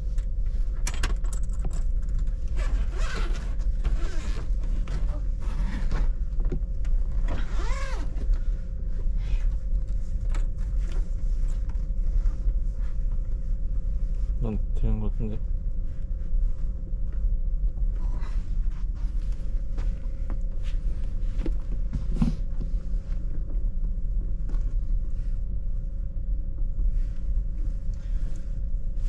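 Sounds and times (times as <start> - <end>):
train carriage rumble and hum: 0.0 - 29.0.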